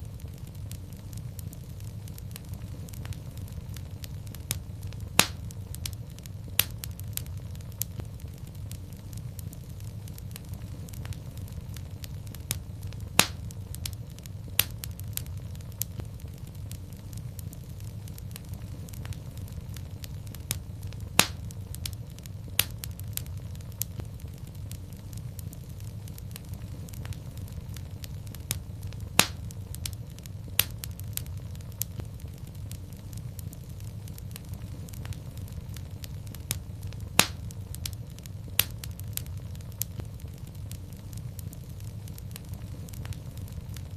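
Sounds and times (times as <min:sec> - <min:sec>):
low rumble of flames: 0:00.0 - 0:43.9
sharp pops from fire: 0:00.0 - 0:43.9
wood fire crackling: 0:00.0 - 0:43.9.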